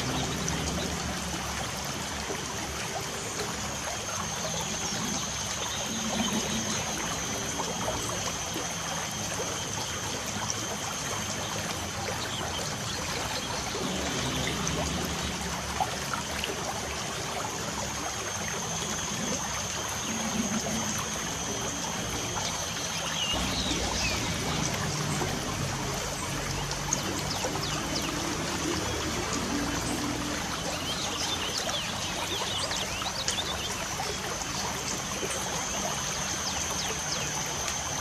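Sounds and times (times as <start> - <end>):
light rain falling: 0.0 - 38.0.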